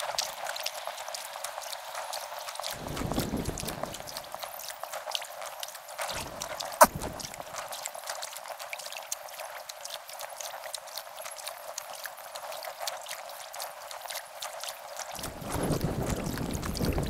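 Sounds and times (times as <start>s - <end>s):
water dripping and trickling: 0.0s - 17.0s.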